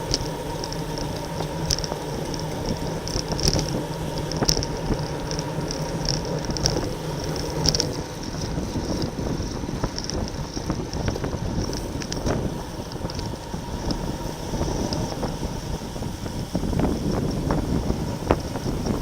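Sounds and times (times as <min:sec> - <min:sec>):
faint steady hum: 0:00.0 - 0:19.0
road noise: 0:00.0 - 0:19.0
wind rush: 0:00.0 - 0:19.0.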